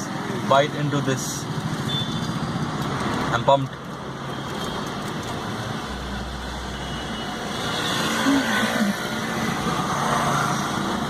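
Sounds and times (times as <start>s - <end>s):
hum of passing vehicles: 0.0s - 11.0s.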